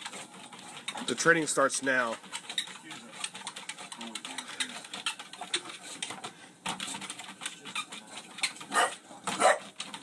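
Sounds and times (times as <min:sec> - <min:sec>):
dog claws tapping on treadmill: 0:00.0 - 0:10.0.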